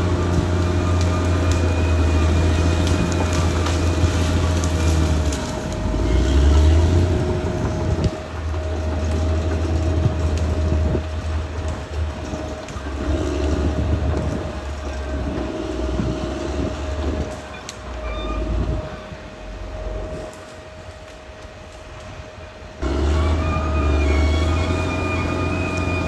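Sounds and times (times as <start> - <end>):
bulldozer diesel engine: 0.0 - 26.0
steady whine: 0.0 - 26.0.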